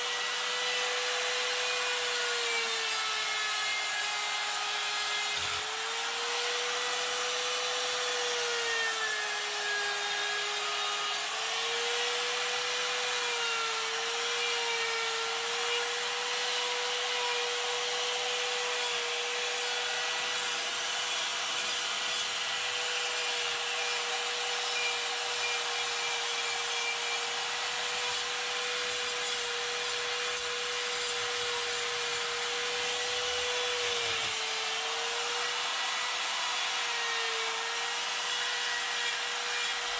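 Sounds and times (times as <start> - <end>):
die grinder grinding wood: 0.0 - 39.9.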